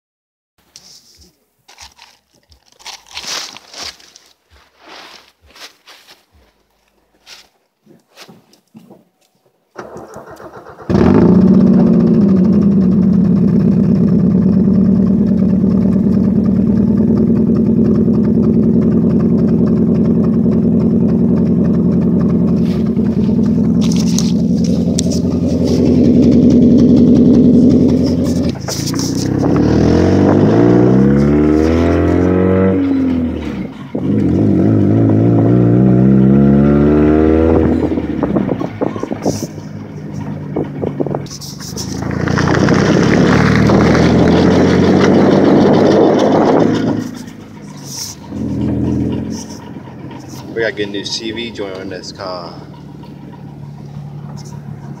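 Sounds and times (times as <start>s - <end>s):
car engine starting and idling: 9.7s - 55.0s
car engine revving through gears: 9.8s - 55.0s.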